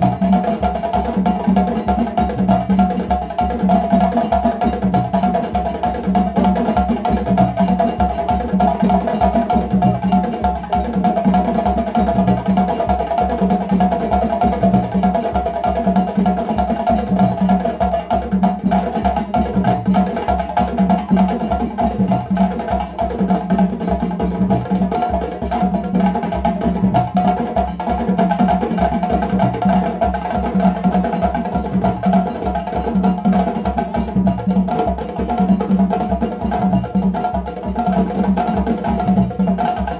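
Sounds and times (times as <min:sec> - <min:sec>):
djembe drums playing: 0:00.0 - 0:39.9.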